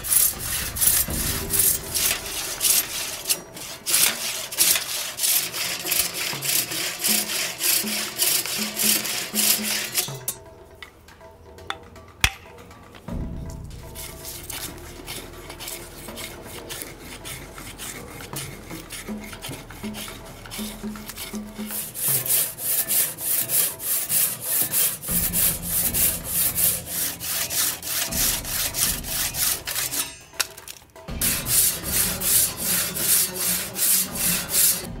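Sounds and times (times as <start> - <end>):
hand plane shaving wood: 0.0 - 10.1, 14.0 - 30.2, 31.2 - 35.0
handsaw cutting wood: 0.0 - 10.3, 14.0 - 30.2, 31.1 - 35.0.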